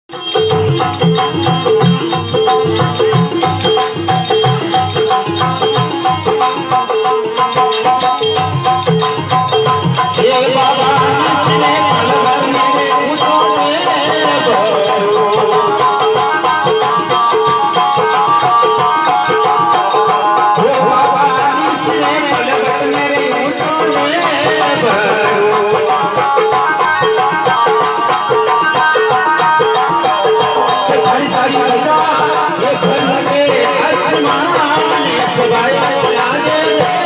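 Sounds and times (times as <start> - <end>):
steady repeating percussion: 0.1 - 37.0.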